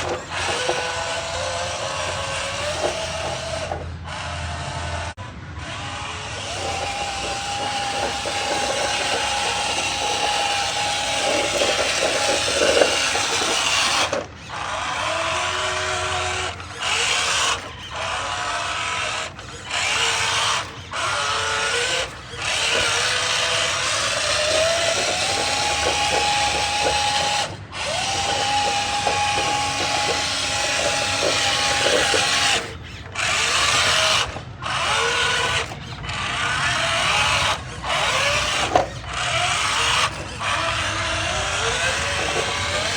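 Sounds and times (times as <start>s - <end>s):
toy truck electric motor whining: 0.0s - 42.9s.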